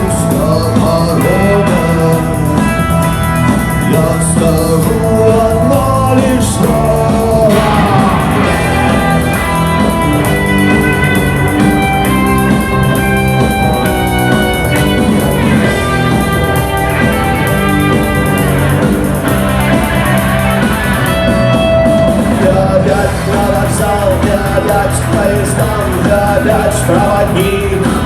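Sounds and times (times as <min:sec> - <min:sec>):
instrumental rock music: 0:00.0 - 0:28.0.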